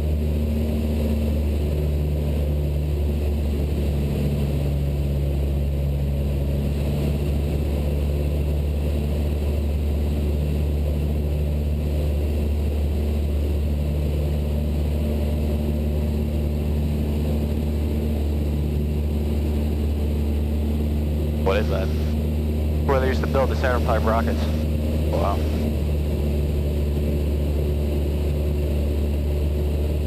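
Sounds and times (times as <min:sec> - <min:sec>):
light aircraft engine droning: 0:00.0 - 0:30.0.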